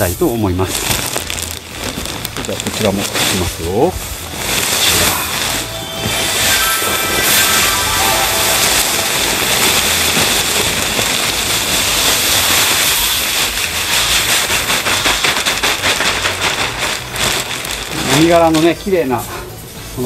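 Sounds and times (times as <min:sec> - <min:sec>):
rice husks pouring from bag: 0:00.0 - 0:19.3.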